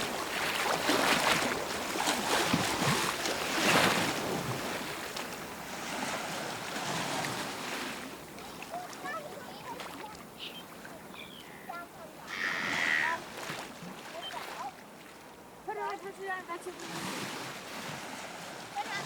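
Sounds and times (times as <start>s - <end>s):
ocean surf washing ashore: 0.0s - 19.0s
waves breaking: 0.0s - 19.0s.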